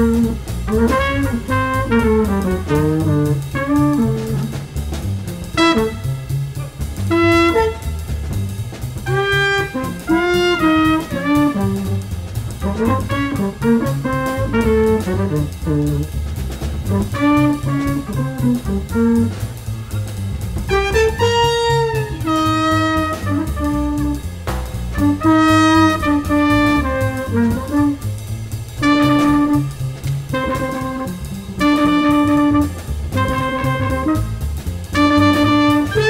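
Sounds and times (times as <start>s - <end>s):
drum kit: 0.0s - 36.0s
jazz trumpet solo: 0.0s - 36.0s
trombone: 0.0s - 36.0s
walking upright bass: 0.0s - 36.0s.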